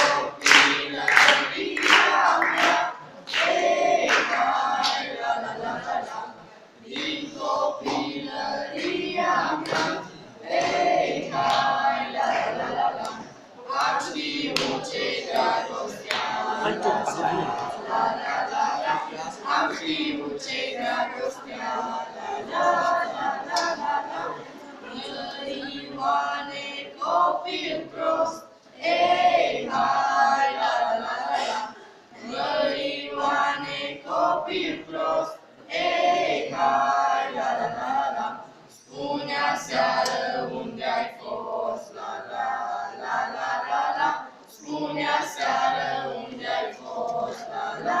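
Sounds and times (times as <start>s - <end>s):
group of voices singing: 0.0s - 48.0s.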